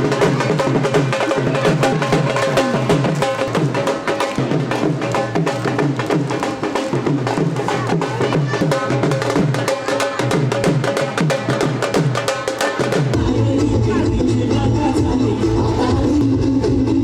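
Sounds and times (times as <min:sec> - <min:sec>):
fast dense drumming: 0:00.0 - 0:15.3.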